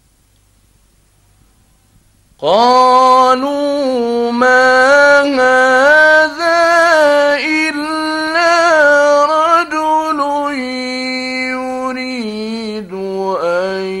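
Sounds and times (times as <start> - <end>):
man chanting recitation: 2.4 - 14.0.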